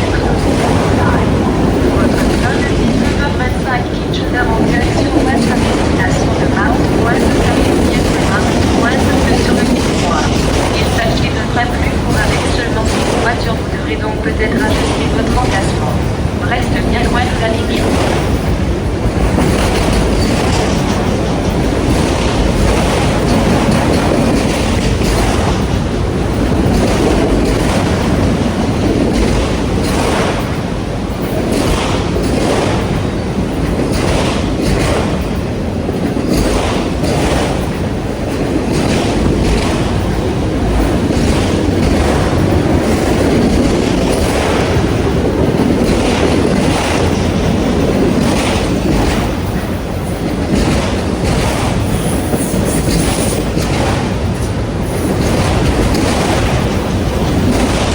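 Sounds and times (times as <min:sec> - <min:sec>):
train cars rumbling past: 0:00.0 - 0:57.9
wheels clicking over rail joints: 0:00.0 - 0:57.9.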